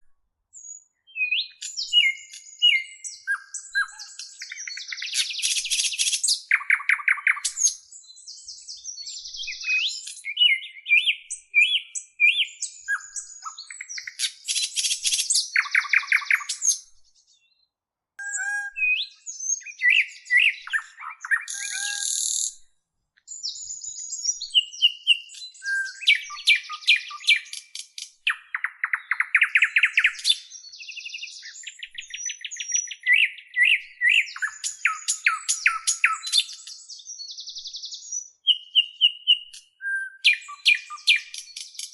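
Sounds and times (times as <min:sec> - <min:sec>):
songbirds chirping and singing: 0:00.5 - 0:22.6, 0:23.2 - 0:41.9.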